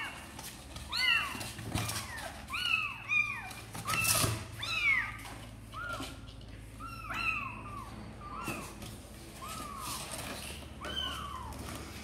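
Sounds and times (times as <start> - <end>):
kittens mewing: 0.0 - 12.0.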